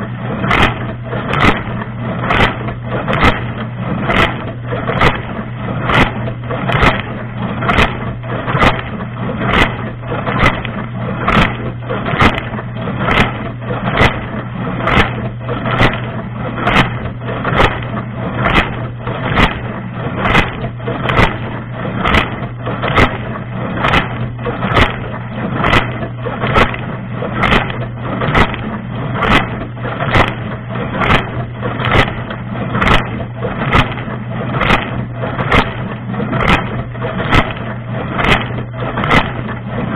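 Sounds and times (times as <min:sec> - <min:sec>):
dishwasher pump humming: 0:00.0 - 0:39.9.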